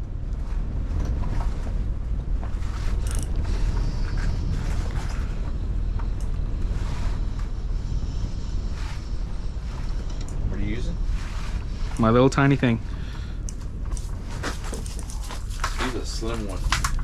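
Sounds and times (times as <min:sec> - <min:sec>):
wind rumble on microphone: 0:00.0 - 0:17.0
faint clicks and rustles: 0:00.1 - 0:17.0.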